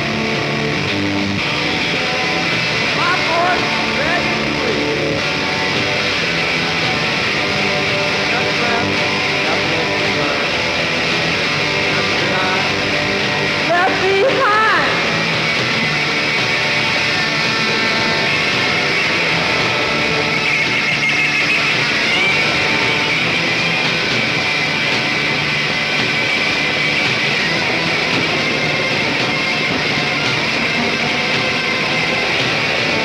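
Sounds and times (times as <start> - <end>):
rock music on radio: 0.0 - 33.0.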